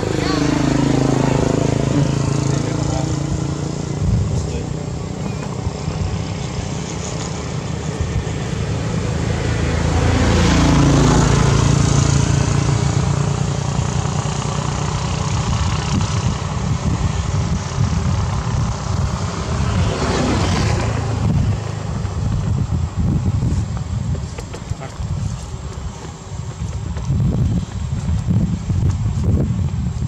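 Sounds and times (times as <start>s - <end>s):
vehicle engine passing: 0.0s - 29.4s.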